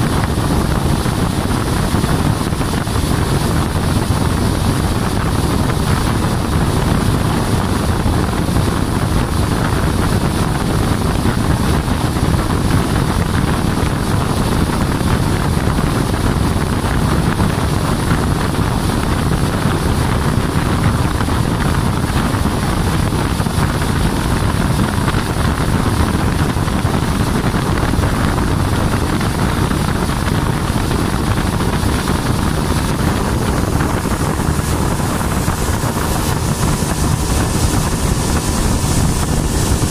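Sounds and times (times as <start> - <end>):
outboard motor running: 0.0 - 39.9
water rushing past hull: 0.0 - 39.9
wind noise on microphone: 0.0 - 39.9.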